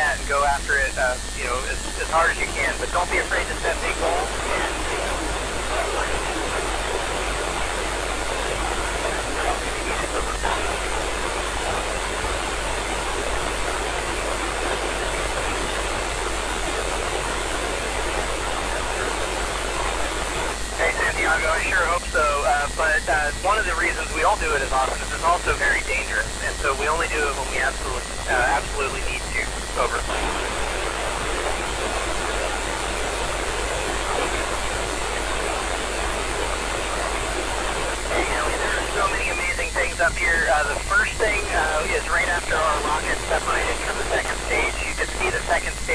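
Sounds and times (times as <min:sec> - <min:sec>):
steady radio hiss: 0:00.0 - 0:45.9.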